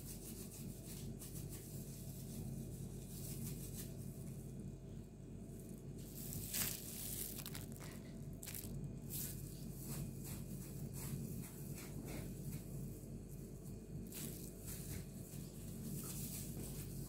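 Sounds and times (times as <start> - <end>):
gloves and breadcrumbs rustling: 0.0 - 17.0
low steady hum: 0.0 - 17.0.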